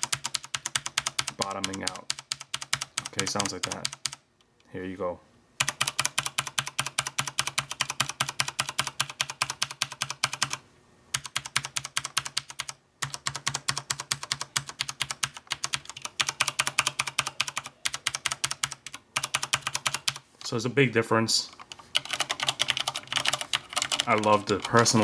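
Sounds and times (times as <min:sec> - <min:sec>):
mechanical keyboard typing: 0:00.0 - 0:04.2, 0:05.6 - 0:20.2, 0:21.5 - 0:25.0
faint low hum: 0:00.0 - 0:25.0.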